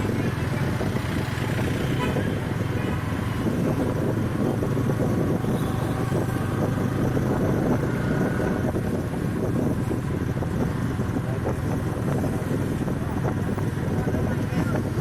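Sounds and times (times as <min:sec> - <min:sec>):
motorcycle engine hum: 0:00.0 - 0:15.0
road noise: 0:00.0 - 0:15.0.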